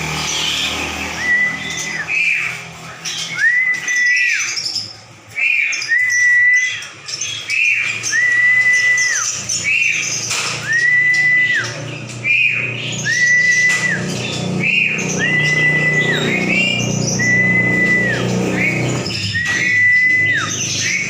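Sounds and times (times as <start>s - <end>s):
caged songbirds chirping: 0.0s - 21.0s.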